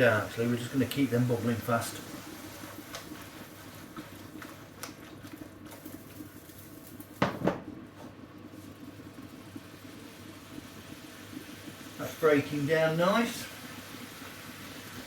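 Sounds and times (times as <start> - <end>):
pot boiling and bubbling: 0.0 - 15.0.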